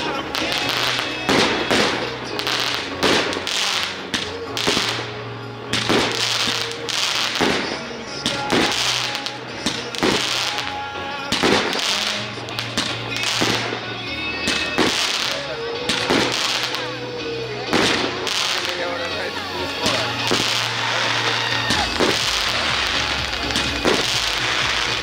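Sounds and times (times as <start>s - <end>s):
background music: 0.0s - 25.0s
fireworks bangs with hiss: 0.0s - 25.0s.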